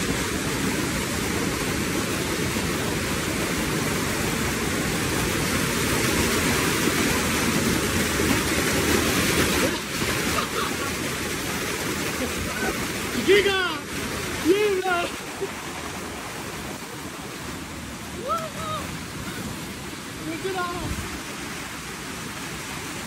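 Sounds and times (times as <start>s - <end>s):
waterfall rushing over rock: 0.0s - 23.0s.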